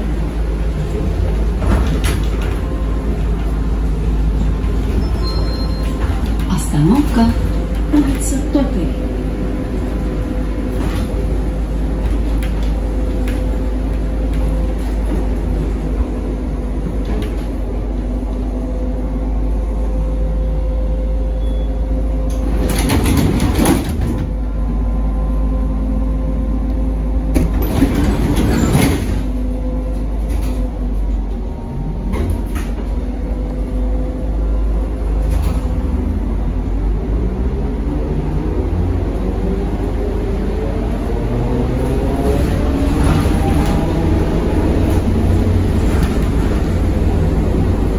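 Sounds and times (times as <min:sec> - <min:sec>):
trolleybus steady hum: 0:00.0 - 0:47.9.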